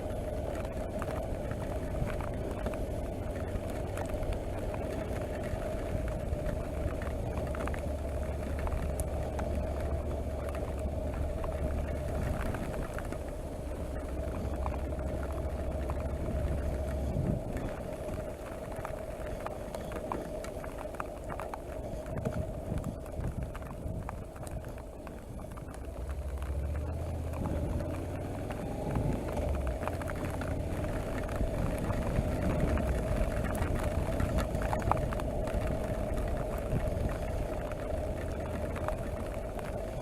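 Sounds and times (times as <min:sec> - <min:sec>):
motorcycle engine running: 0:00.0 - 0:21.0, 0:22.0 - 0:40.0
wind and road noise: 0:00.0 - 0:40.0.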